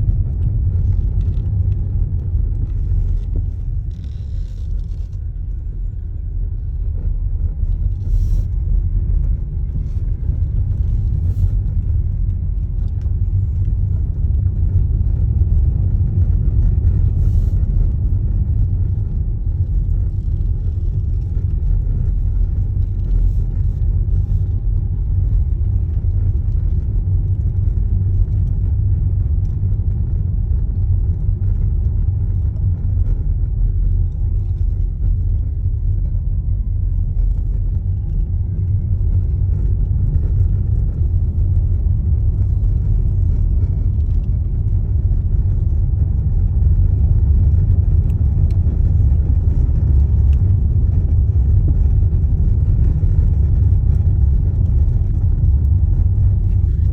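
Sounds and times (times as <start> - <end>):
road and tyre rumble: 0.0 - 56.9.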